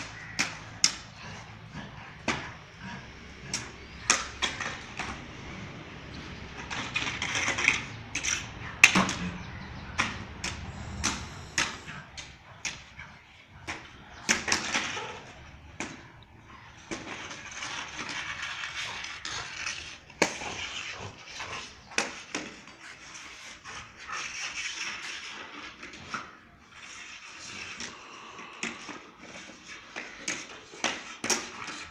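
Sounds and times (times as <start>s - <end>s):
floor wiper scraping concrete: 0.0s - 12.2s, 16.7s - 31.9s.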